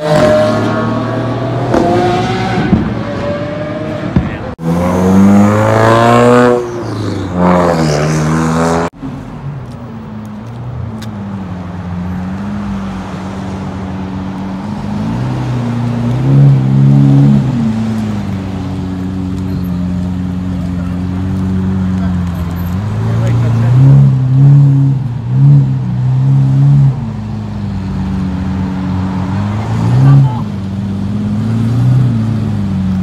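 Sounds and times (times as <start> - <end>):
passing car engine revving: 0.0 - 8.9, 11.0 - 33.0.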